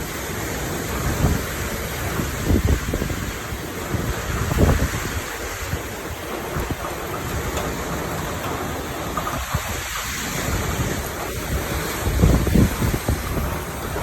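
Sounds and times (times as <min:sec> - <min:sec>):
wind and rain rushing: 0:00.0 - 0:14.0
wind buffeting microphone: 0:00.0 - 0:14.0.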